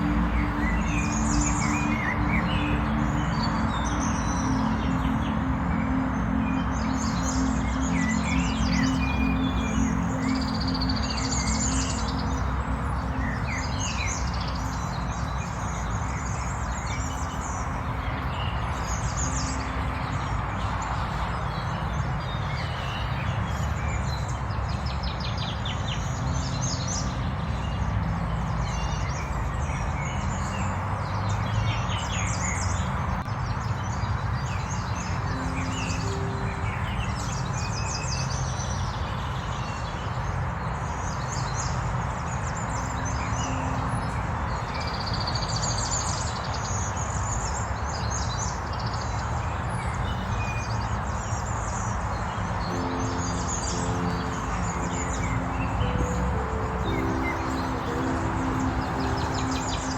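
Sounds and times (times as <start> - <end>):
small birds chirping and singing: 0.0 - 59.9.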